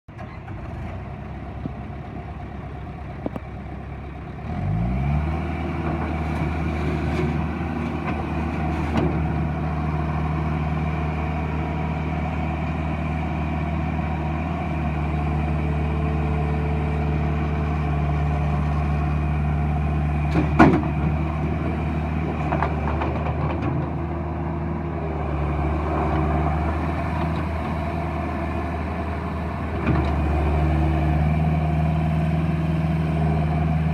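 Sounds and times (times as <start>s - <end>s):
diesel engine revving: 4.2s - 33.9s.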